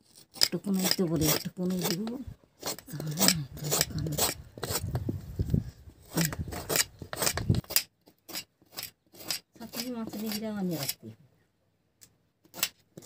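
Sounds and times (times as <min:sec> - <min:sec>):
knife scraping gourd skin: 0:00.0 - 0:11.1, 0:12.4 - 0:13.0.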